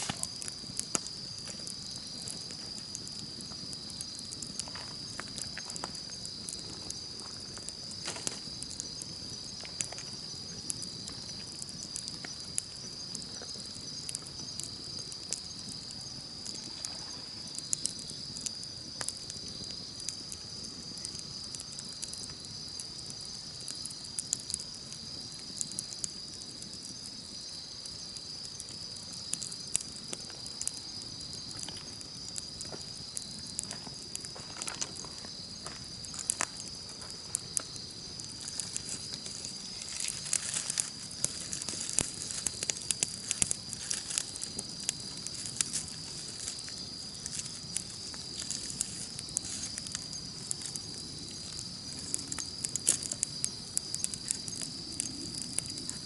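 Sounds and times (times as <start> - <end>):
campfire crackling: 0.0 - 56.0
fire pops and snaps: 0.0 - 56.0
insects chirping: 0.0 - 56.0.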